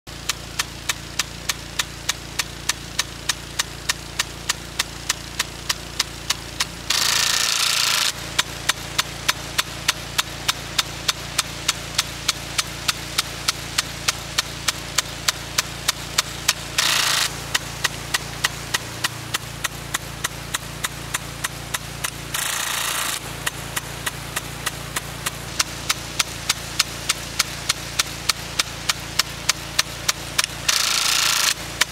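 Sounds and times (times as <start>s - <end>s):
rush of spray: 0.1s - 31.9s
water stream hissing: 1.2s - 31.9s.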